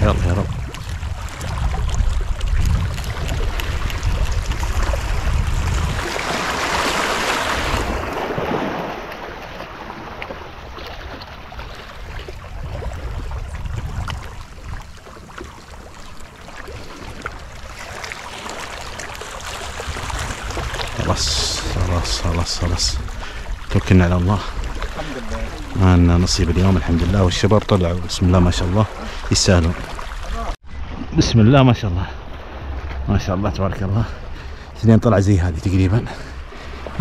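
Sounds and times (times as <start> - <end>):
wind buffeting microphone: 0.0 - 9.2, 9.8 - 37.0
sea waves washing on shore: 0.0 - 37.0.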